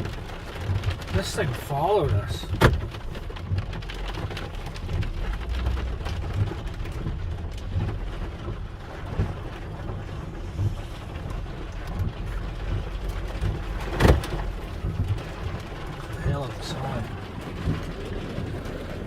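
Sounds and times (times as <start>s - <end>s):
hailstones ticking: 0.0s - 19.0s
heavy rain on vehicle: 0.0s - 19.0s
steady low rumble: 0.0s - 19.0s.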